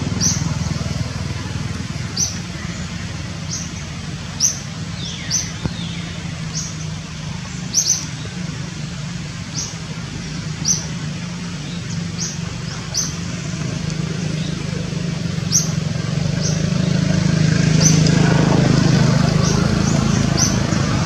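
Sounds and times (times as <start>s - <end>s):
bird chirping: 0.0s - 1.3s, 2.0s - 8.8s, 9.4s - 21.0s
rain: 0.0s - 21.0s.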